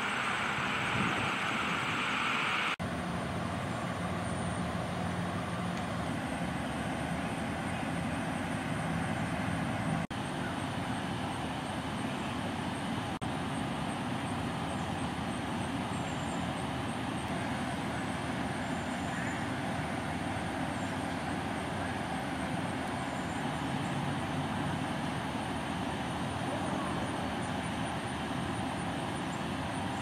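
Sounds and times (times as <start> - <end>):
low vehicle rumble: 0.0 - 30.0.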